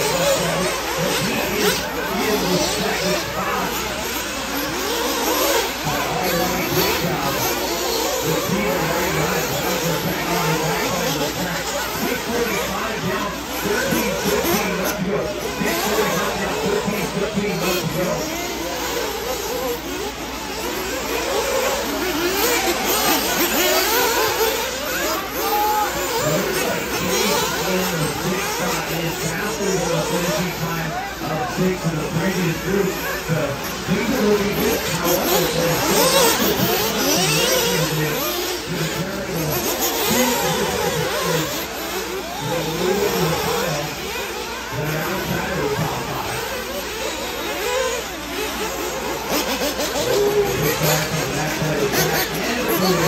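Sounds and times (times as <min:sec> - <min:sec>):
rc car motors revving: 0:00.0 - 0:53.0.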